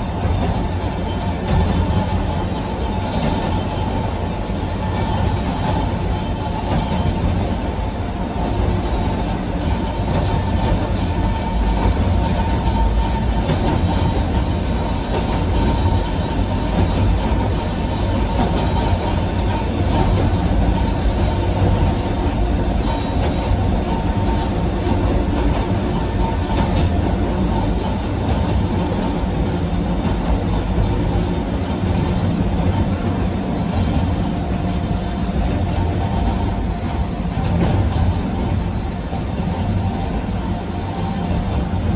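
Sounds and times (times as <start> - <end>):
constant hum: 0.0 - 41.9
train wheels rumbling on rails: 0.0 - 41.9.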